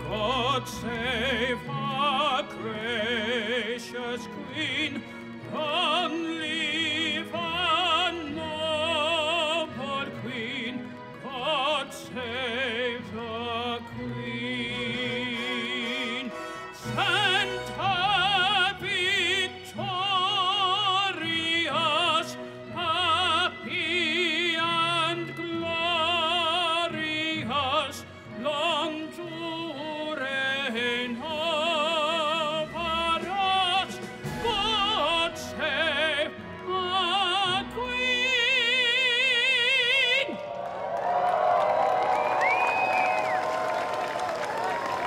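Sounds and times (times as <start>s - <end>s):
man singing opera: 0.0s - 40.4s
musical accompaniment: 0.0s - 45.0s.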